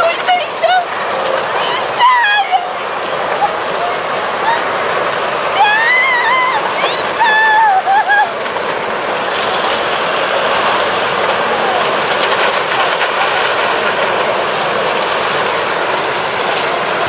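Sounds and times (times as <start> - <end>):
faint crackles: 0.0 - 17.0
flood water rushing roar: 0.0 - 17.0.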